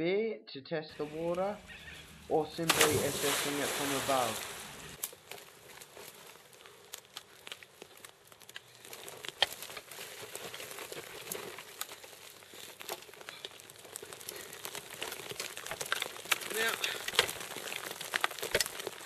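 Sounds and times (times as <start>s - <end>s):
dirt and stones scraping: 0.9s - 19.0s
falling debris clicks: 2.6s - 19.0s.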